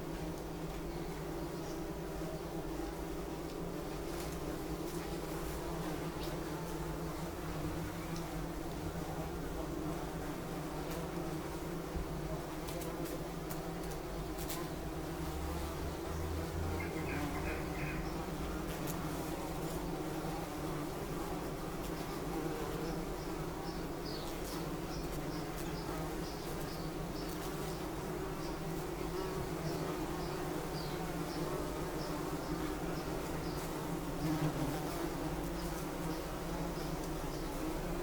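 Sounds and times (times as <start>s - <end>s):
bumblebee buzzing: 0.0s - 38.0s.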